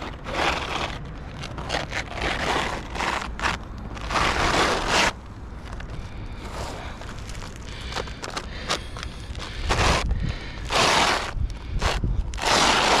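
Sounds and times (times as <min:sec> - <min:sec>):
roof shingle scraping: 0:00.0 - 0:13.0.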